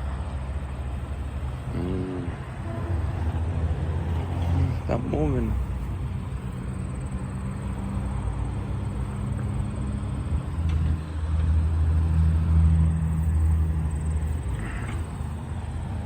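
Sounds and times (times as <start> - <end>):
construction machinery diesel engine: 0.0 - 16.0.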